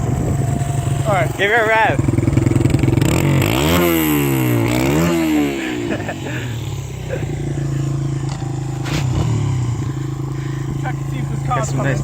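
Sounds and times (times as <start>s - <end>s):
dirt bike engine idling: 0.0s - 12.0s
dirt bike engine revving: 0.0s - 12.0s.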